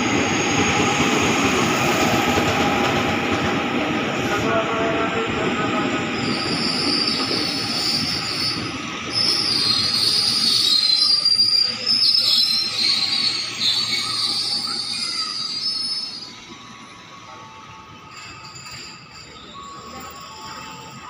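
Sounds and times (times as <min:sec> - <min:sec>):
train rumble: 0:00.0 - 0:21.0
wheels squealing on rails: 0:00.0 - 0:21.0.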